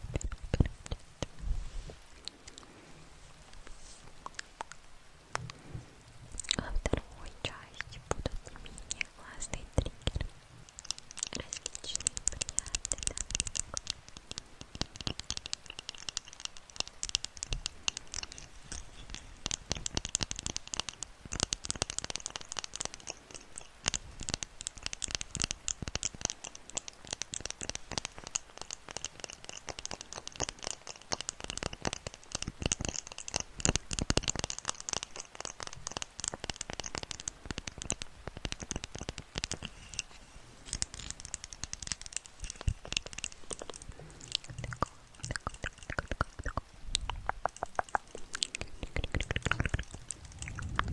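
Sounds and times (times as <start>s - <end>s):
scratchy crinkly crackles: 0.0s - 50.9s.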